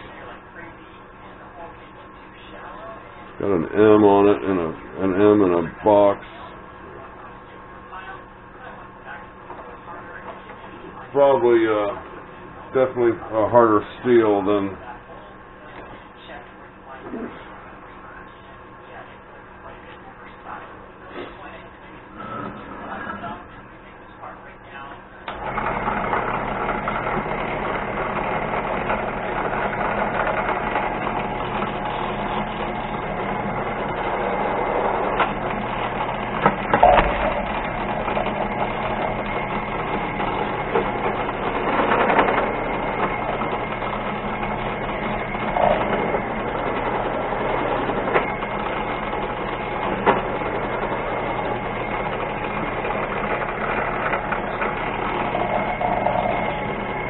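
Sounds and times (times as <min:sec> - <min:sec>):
lathe running: 0:00.0 - 0:57.0.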